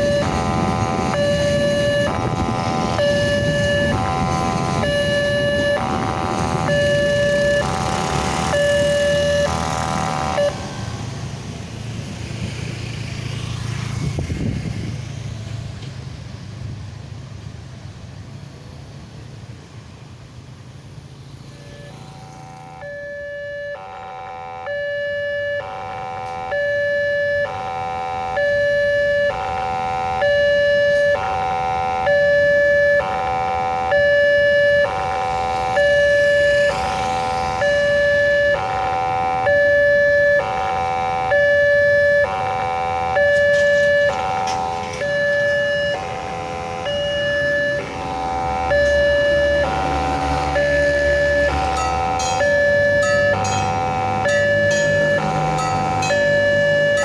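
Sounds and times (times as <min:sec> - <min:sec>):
two-tone level-crossing siren: 0:00.0 - 0:11.4, 0:21.4 - 0:57.0.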